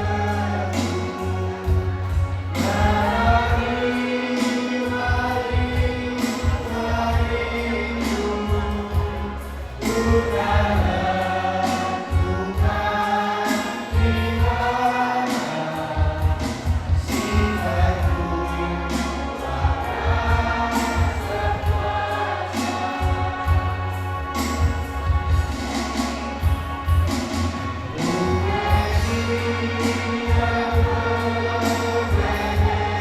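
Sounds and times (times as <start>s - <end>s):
group of voices singing: 0.0s - 33.0s
music with pulsing bass: 0.0s - 33.0s.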